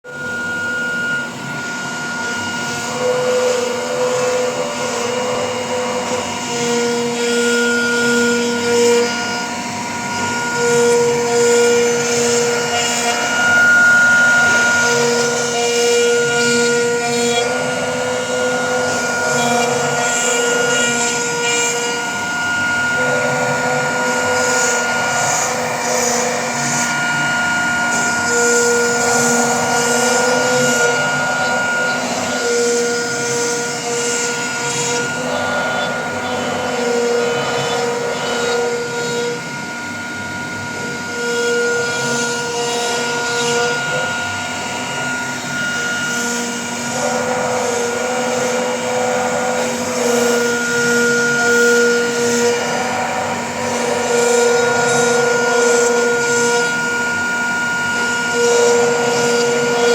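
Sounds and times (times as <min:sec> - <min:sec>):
router motor whine: 0:00.0 - 0:59.9.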